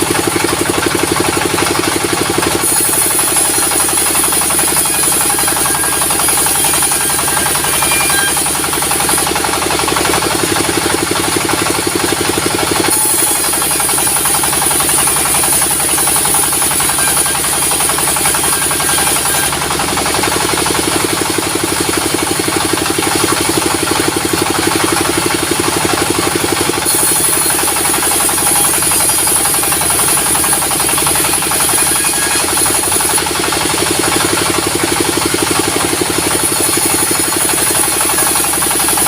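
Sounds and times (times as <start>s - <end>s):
sawmill engine running: 0.0s - 39.0s.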